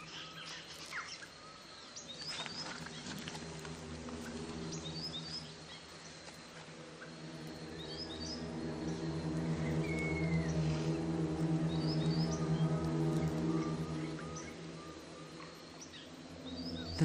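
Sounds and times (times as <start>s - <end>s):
faint insect hum: 0.0s - 17.0s
low musical drone: 1.5s - 17.0s.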